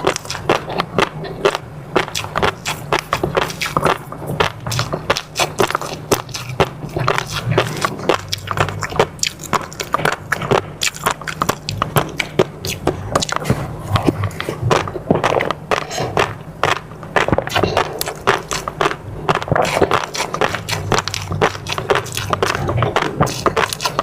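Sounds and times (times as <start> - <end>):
wet mouth clicks and chewing: 0.0 - 24.0.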